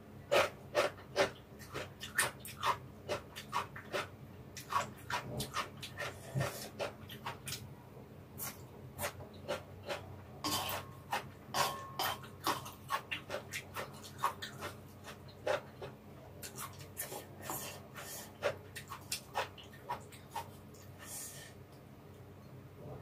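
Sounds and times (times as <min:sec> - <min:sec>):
wet chewing and slurping: 0:00.3 - 0:07.6, 0:08.4 - 0:21.1.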